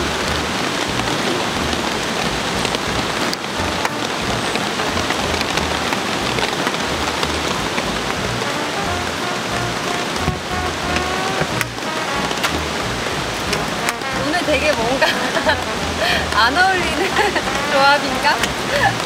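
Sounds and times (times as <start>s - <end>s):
raindrops ticking: 0.0s - 19.0s
steady rain: 0.0s - 19.0s.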